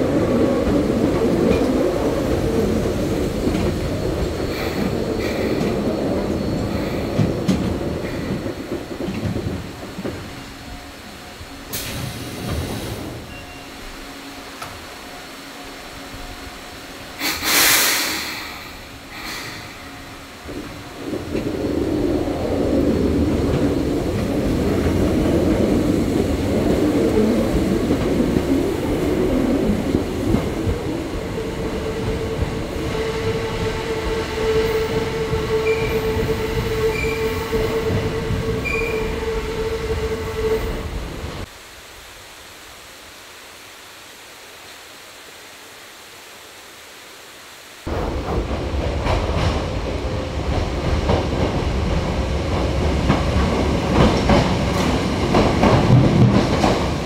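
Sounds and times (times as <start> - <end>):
rail clicks: 0.0 - 13.9, 17.0 - 41.5, 47.9 - 57.0
electric train rumbling: 0.0 - 57.0.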